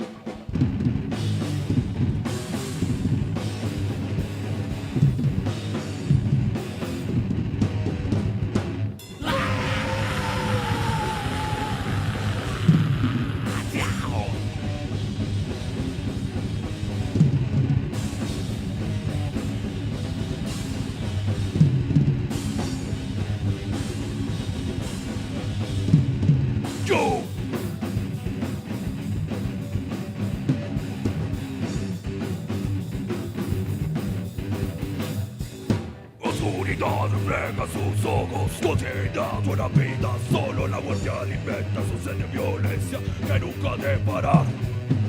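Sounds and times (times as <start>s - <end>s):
rapid dense drumming: 0.0s - 8.6s, 9.2s - 45.0s
heavy metal band playing: 0.0s - 45.0s.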